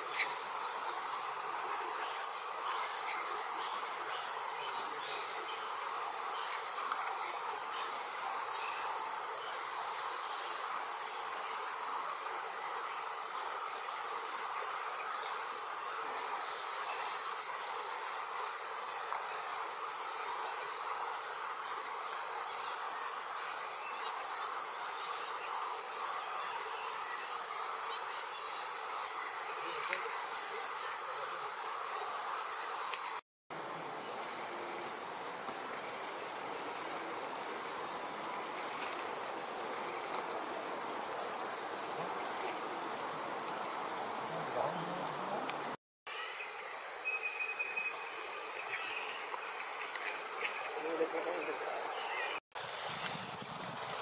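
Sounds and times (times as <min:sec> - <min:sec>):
crickets shrill drone: 0:00.0 - 0:54.0
insects hissing: 0:00.0 - 0:54.0.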